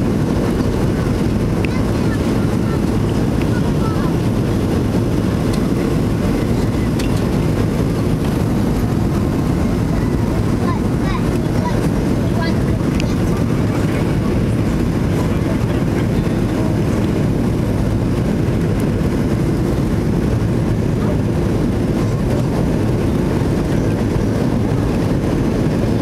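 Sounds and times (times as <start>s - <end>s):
airflow over aircraft: 0.0s - 26.0s
airplane cabin engine rumble: 0.0s - 26.0s.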